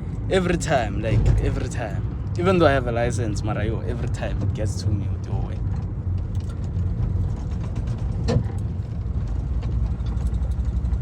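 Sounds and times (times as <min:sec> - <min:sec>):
van engine drone: 0:00.0 - 0:11.0.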